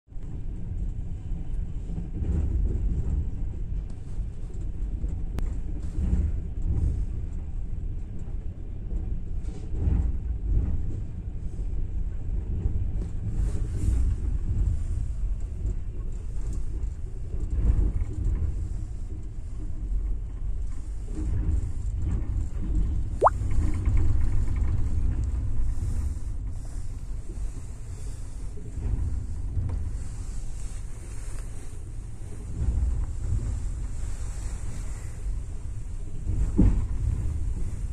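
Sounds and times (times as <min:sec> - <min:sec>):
train rumbling on rails: 0:00.1 - 0:37.9.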